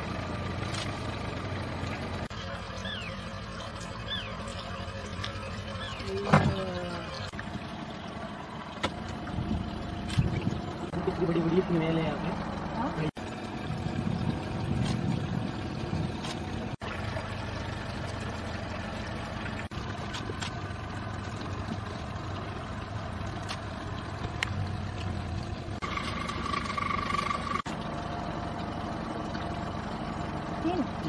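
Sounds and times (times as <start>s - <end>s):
boat motor humming: 0.0s - 31.0s.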